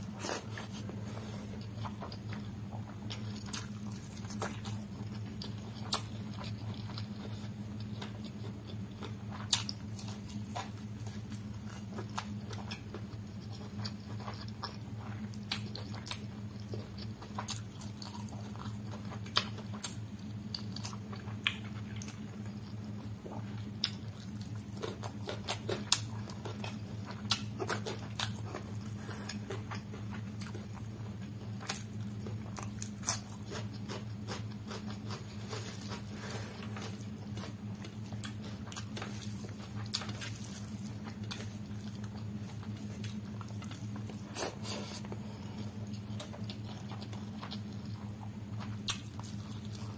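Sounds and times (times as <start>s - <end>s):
low hum: 0.0s - 49.9s
man chewing wetly: 0.0s - 49.9s.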